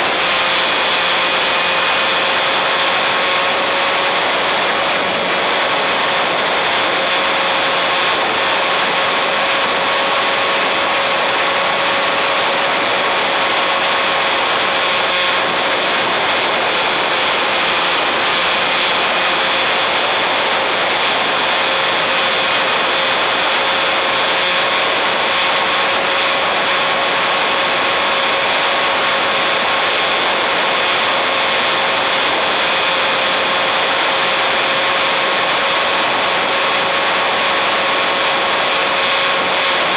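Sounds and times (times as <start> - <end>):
model airplane motor whine: 0.0 - 39.9.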